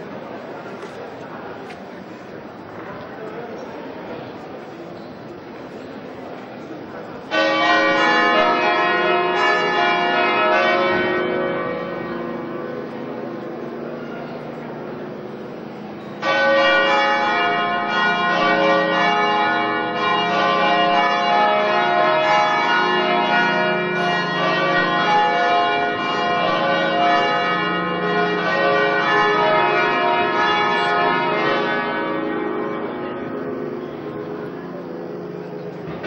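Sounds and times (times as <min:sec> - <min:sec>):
church bells ringing: 0:05.8 - 0:36.0.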